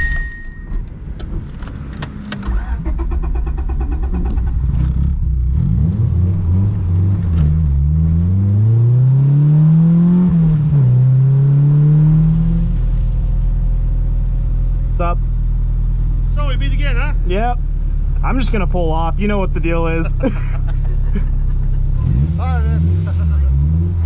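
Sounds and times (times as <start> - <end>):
car engine accelerating: 1.0 - 24.0.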